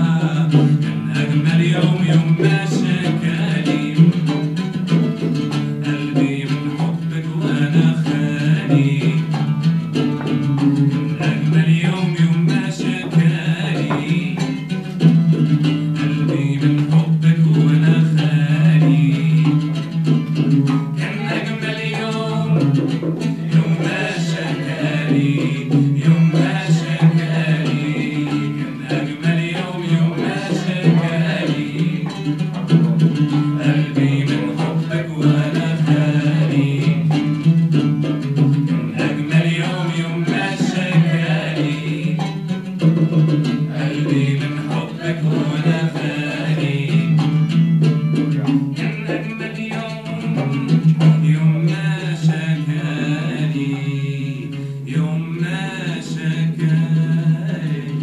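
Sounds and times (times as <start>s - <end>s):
voices singing: 0.0s - 5.0s, 5.6s - 58.0s
oud plucking: 0.0s - 58.0s
violin: 0.0s - 58.0s.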